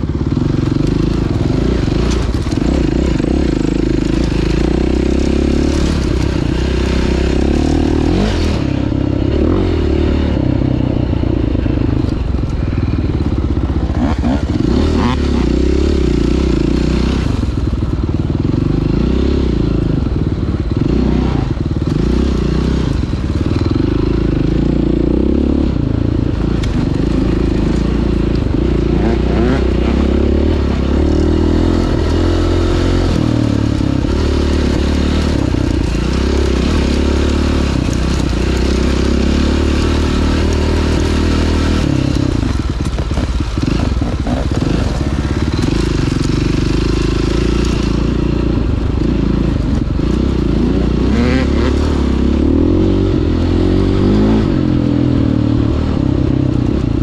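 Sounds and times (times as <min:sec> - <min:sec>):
bike rattling over rough ground: 0:00.0 - 0:57.0
dirt bike engine revving: 0:00.0 - 0:57.0.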